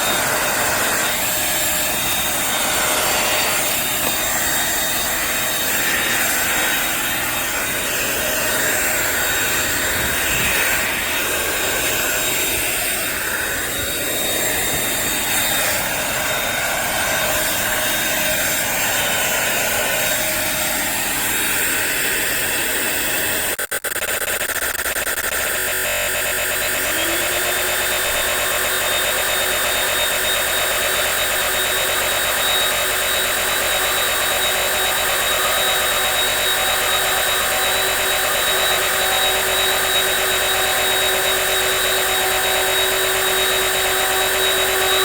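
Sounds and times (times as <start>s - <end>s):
vacuum motor whooshing whir: 0.0s - 23.4s, 25.4s - 45.0s.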